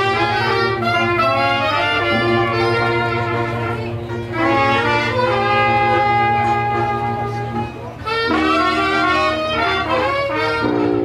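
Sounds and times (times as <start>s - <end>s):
jazz band playing: 0.0s - 11.0s.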